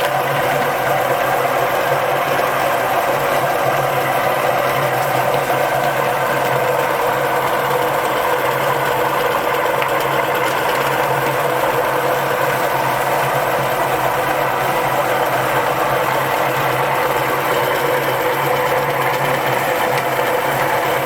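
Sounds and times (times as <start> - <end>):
electric meat grinder humming: 0.0 - 21.0.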